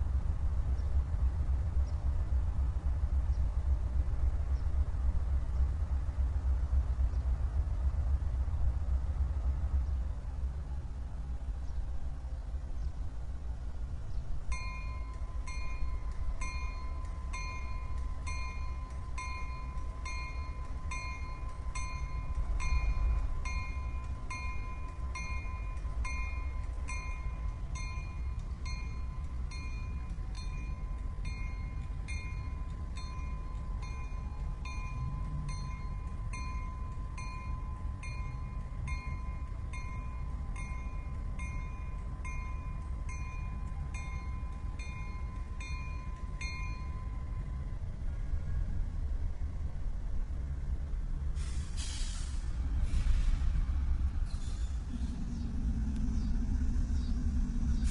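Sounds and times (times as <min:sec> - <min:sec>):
diesel locomotive rumbling: 0:00.0 - 0:57.9.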